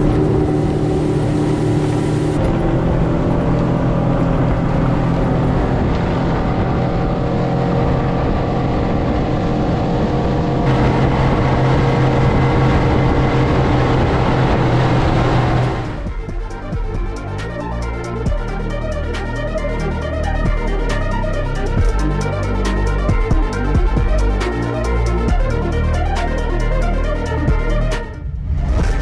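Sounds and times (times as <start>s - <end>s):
motorboat engine droning: 0.0s - 28.0s.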